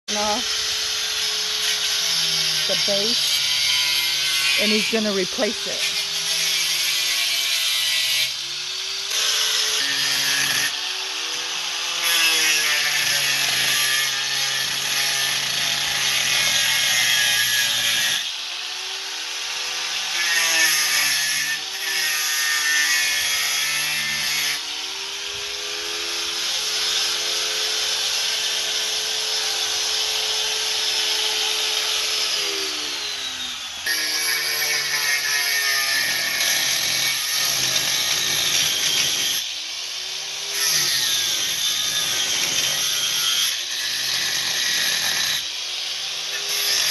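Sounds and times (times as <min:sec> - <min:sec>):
power tool cutting metal: 0:00.1 - 0:46.9.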